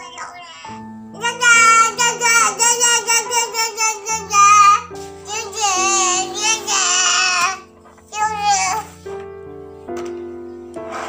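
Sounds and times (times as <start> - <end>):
child singing: 0.0 - 9.0
instrumental backing music: 0.0 - 11.0.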